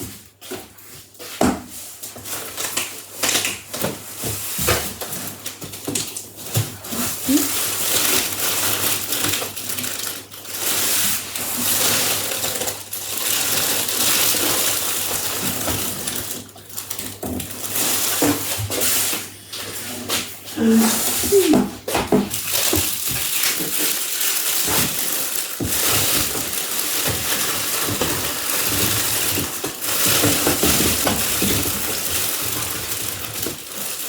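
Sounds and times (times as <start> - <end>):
rustling and scraping of packaging: 0.0 - 34.0.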